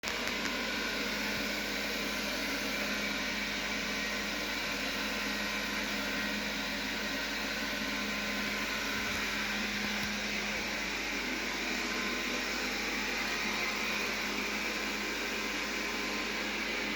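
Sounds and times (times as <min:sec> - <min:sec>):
robot vacuum suction fan: 0:00.1 - 0:16.9.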